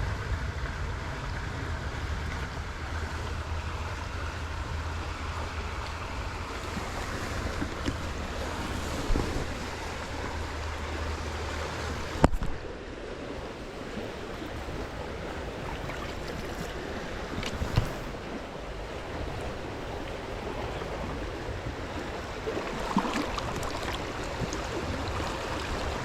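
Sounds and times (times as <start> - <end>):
moving water: 0.0 - 26.0
wind on microphone: 0.0 - 26.0.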